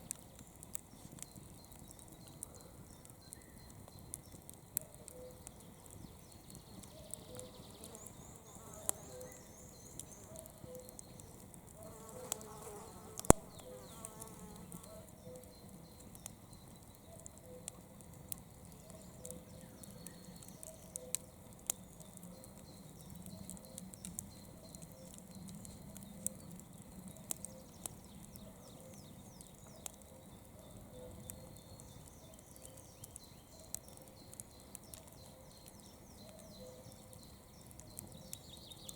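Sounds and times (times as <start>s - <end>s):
campfire crackling and popping: 0.0s - 38.9s
faint rhythmic chirping: 0.1s - 38.9s.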